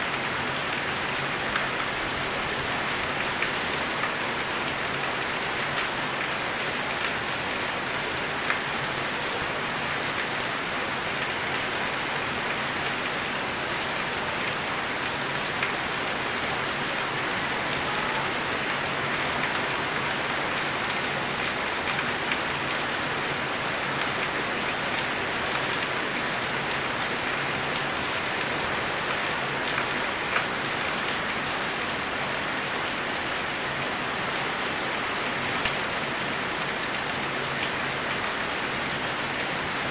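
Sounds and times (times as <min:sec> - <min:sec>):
torrential rain hissing: 0:00.0 - 0:39.9.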